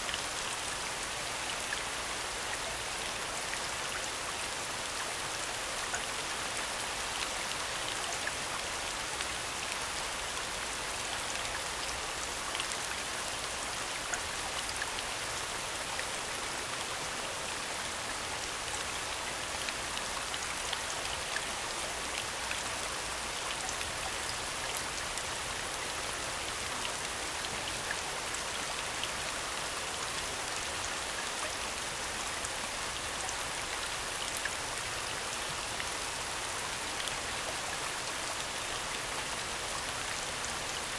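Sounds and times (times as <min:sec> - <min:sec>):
steady falling rain: 0:00.0 - 0:40.9.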